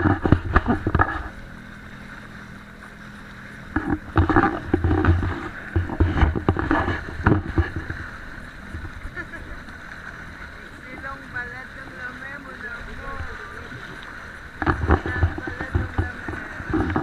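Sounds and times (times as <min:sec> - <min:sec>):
choppy bursts of water and wind: 0:00.0 - 0:17.0
jet ski engine running: 0:00.0 - 0:17.0.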